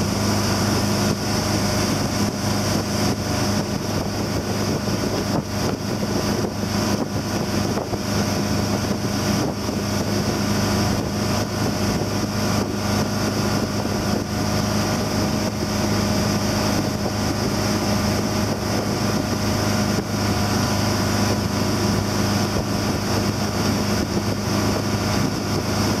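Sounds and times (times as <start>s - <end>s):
motorboat engine humming: 0.0s - 26.0s
wind noise on microphone: 0.0s - 26.0s.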